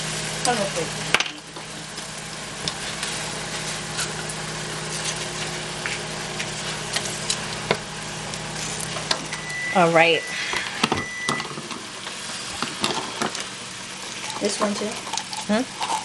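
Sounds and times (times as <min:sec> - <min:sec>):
kitchen appliance humming: 0:00.0 - 0:16.0.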